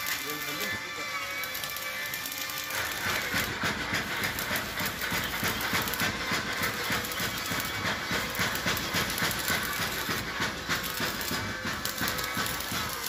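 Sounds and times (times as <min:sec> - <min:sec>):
arc welding crackling and sizzling: 0:00.0 - 0:13.0.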